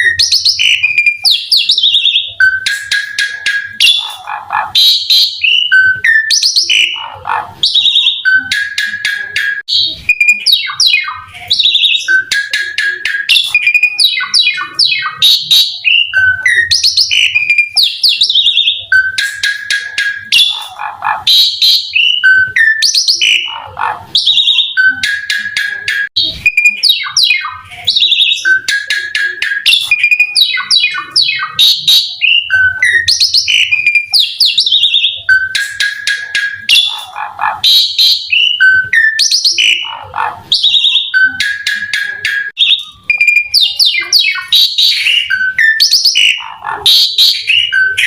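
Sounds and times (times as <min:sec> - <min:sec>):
starling singing: 0:00.0 - 0:48.0.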